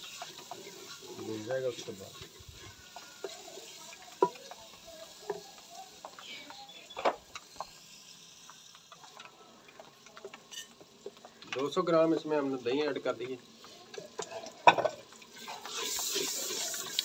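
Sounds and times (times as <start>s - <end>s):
masala sizzling in a pot: 0.0s - 17.0s.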